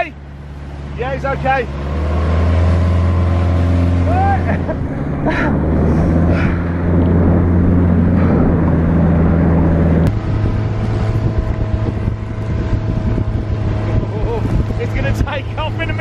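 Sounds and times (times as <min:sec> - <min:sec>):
rushing water: 0:00.0 - 0:16.0
speedboat engine drone: 0:00.0 - 0:16.0
wind buffeting microphone: 0:02.4 - 0:16.0.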